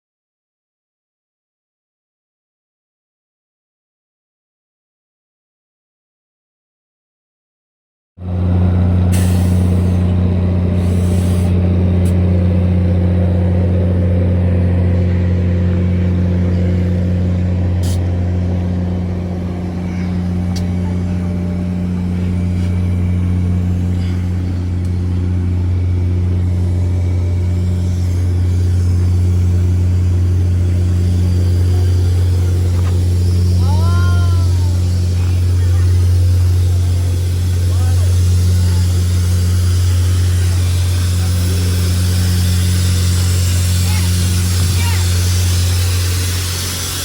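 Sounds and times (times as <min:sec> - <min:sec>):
moving train rumble: 0:08.2 - 0:47.0.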